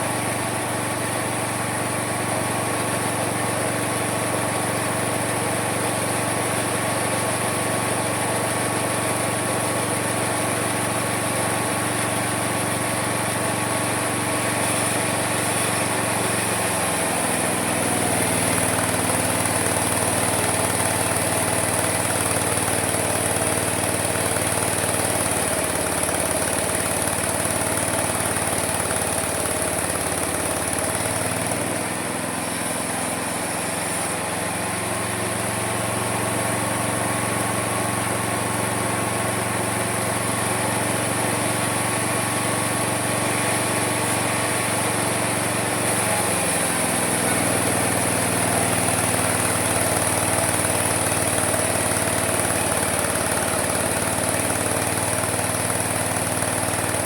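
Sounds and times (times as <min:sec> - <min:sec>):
sawmill motor running: 0:00.0 - 0:57.0.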